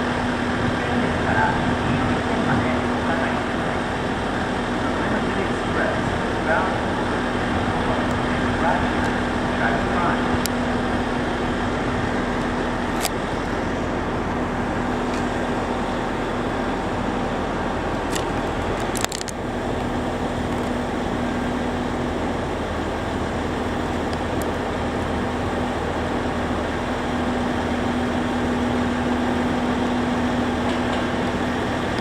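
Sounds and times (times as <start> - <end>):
constant rumble: 0.0 - 32.0
electric train humming: 0.0 - 32.0.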